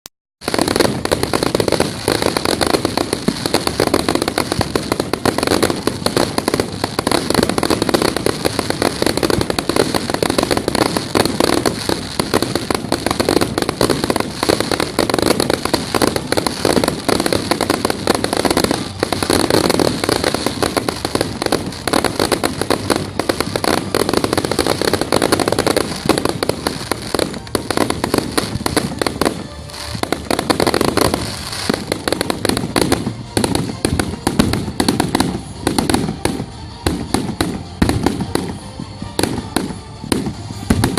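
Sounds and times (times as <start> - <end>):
fireworks crackling: 0.4 - 40.9.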